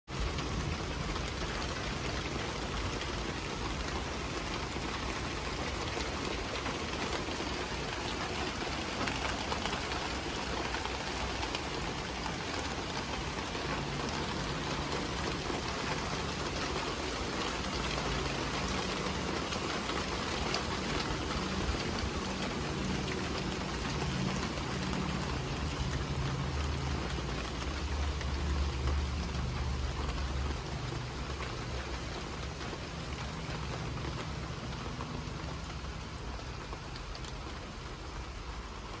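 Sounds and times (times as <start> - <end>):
rain pattering: 0.0 - 39.0.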